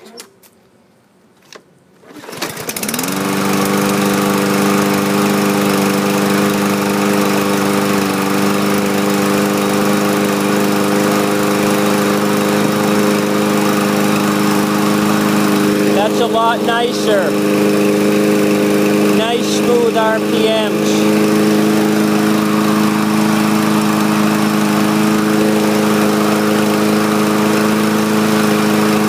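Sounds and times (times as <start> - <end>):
lawn mower engine starting and running: 1.4 - 29.0.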